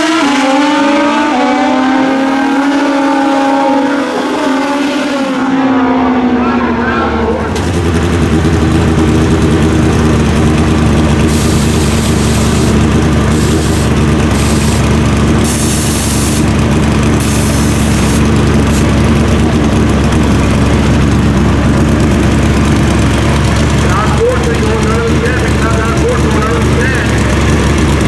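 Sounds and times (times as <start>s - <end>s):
motorcycle engines idling: 2.1s - 28.0s.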